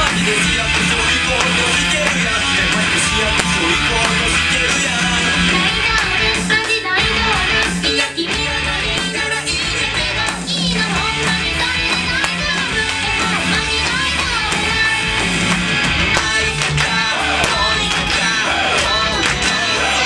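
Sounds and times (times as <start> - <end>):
live rock music: 0.0 - 20.0.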